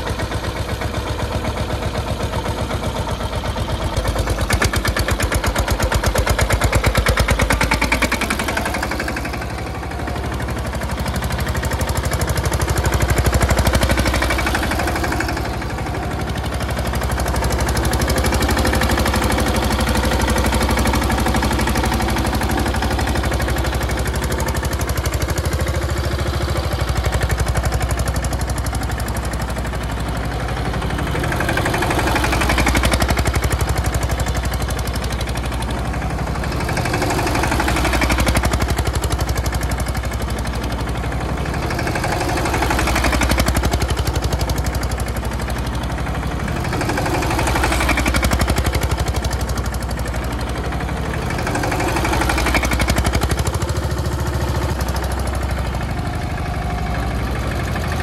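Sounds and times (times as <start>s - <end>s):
tractor diesel engine knocking: 0.0s - 58.0s.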